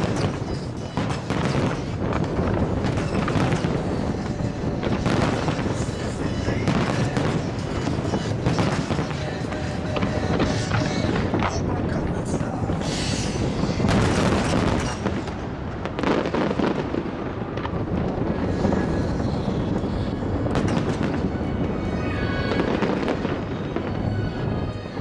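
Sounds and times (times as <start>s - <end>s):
fireworks bangs: 0.0s - 25.0s
fireworks bursting and crackling: 0.0s - 25.0s.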